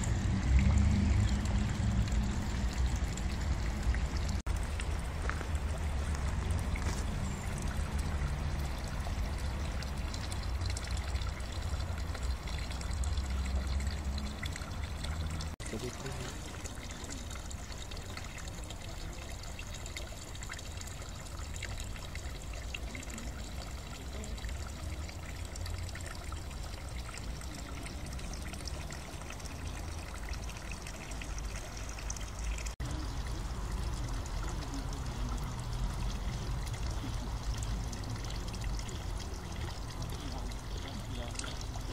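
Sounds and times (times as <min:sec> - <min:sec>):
fountain water trickling and splashing: 0:00.0 - 0:41.9.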